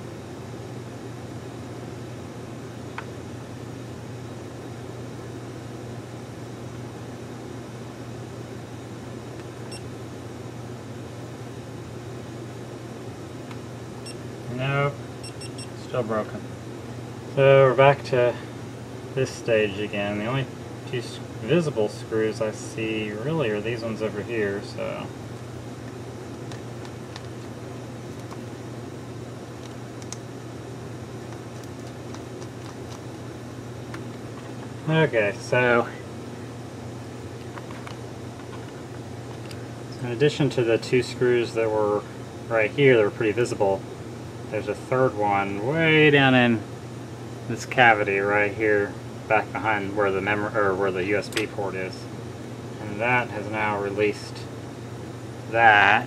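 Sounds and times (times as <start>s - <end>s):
low room hum: 0.0s - 56.0s.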